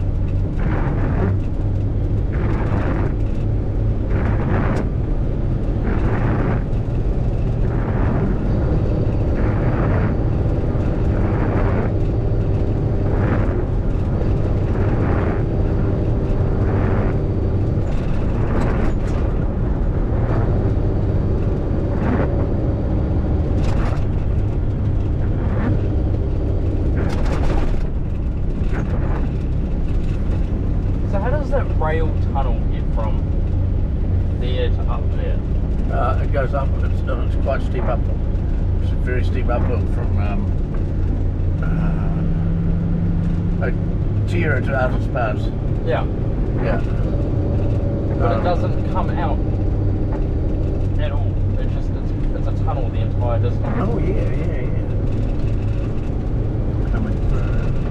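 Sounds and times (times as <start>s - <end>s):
truck diesel engine rumble: 0.0s - 57.9s
wet road and wind noise: 0.0s - 57.9s.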